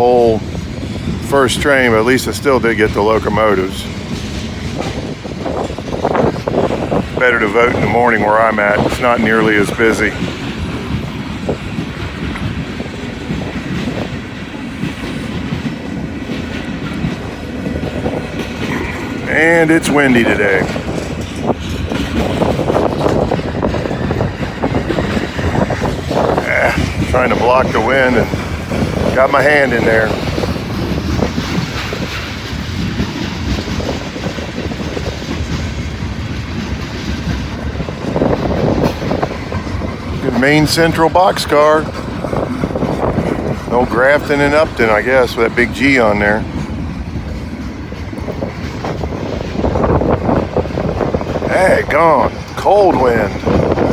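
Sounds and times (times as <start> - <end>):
freight train wheels clattering: 0.0 - 53.9
wind buffeting microphone: 0.0 - 53.9.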